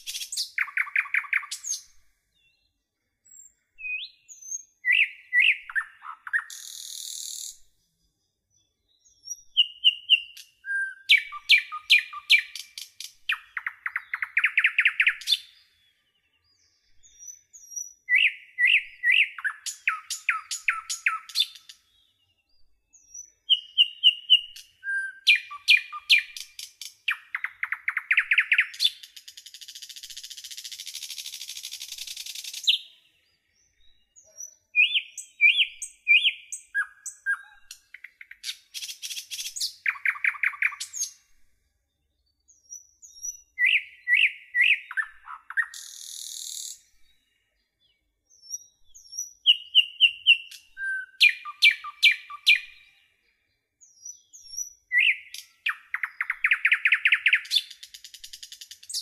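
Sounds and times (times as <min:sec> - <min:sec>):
songbird chirps and trill: 0:00.0 - 0:59.0.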